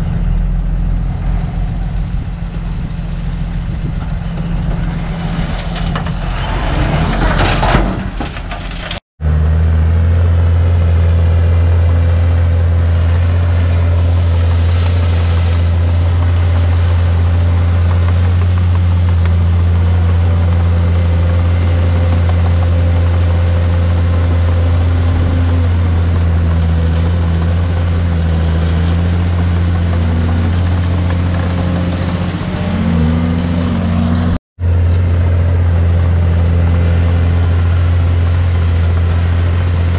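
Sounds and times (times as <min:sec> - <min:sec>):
diesel engine humming: 0:00.0 - 0:08.6, 0:09.2 - 0:39.9.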